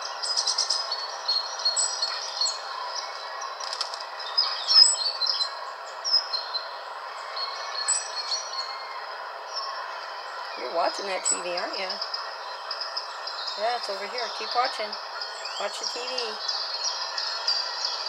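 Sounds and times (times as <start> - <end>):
recorded bird chirps and trills: 0.0 - 18.0.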